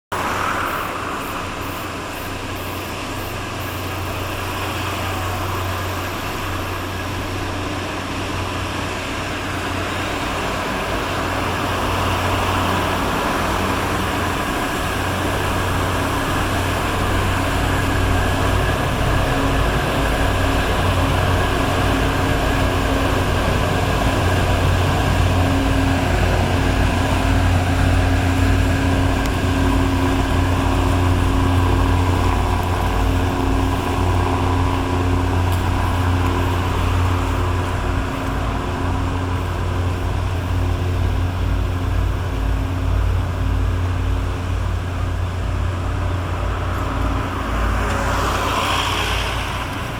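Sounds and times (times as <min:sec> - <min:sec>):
tugboat diesel engines droning: 0:00.0 - 0:49.9.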